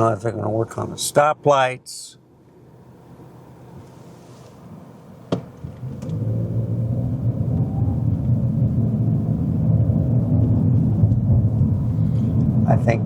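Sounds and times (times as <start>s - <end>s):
low vehicle engine rumble: 0.0s - 13.0s.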